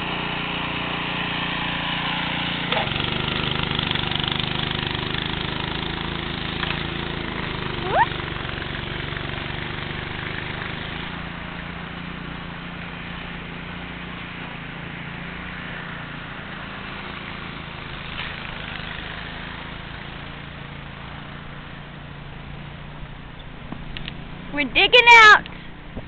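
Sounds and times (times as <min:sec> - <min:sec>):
engine humming with hiss: 0:00.0 - 0:26.0.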